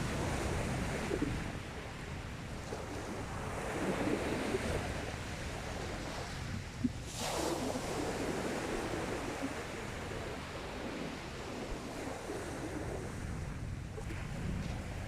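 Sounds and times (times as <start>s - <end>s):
sea waves washing on beach: 0.0s - 15.0s
wind on microphone: 0.0s - 15.0s.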